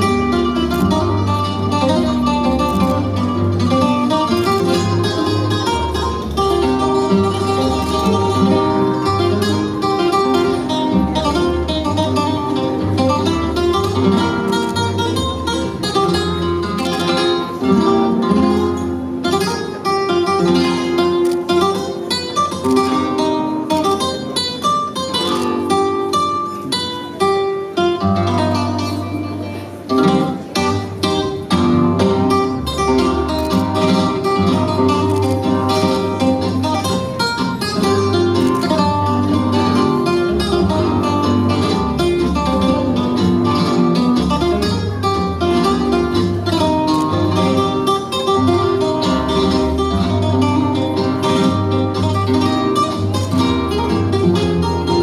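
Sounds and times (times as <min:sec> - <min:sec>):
flamenco guitar music: 0:00.0 - 0:55.0.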